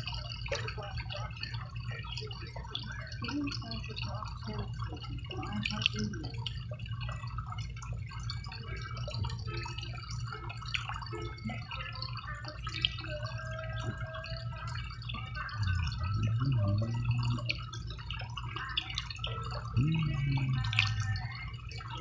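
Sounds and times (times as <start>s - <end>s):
steady low hum: 0.0s - 22.0s
water dripping and splashing: 0.0s - 22.0s.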